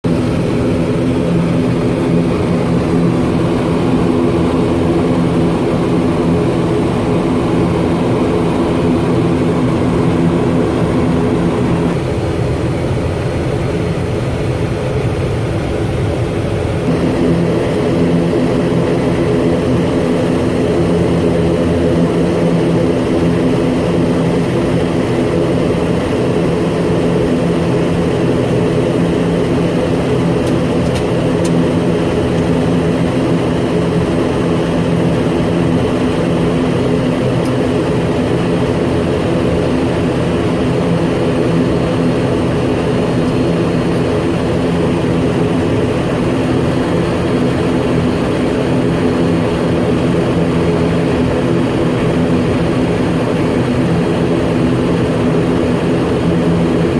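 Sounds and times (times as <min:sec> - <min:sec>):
helicopter engines and rotor running: 0:00.0 - 0:56.9.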